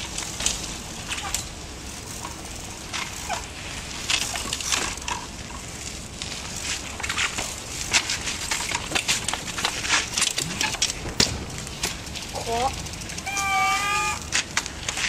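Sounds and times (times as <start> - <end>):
bicycle tyres crunching on dirt: 0.0 - 15.0.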